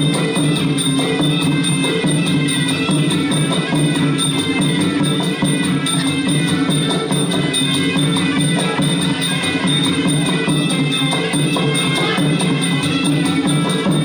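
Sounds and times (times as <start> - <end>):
drums and percussion beat: 0.0 - 14.0.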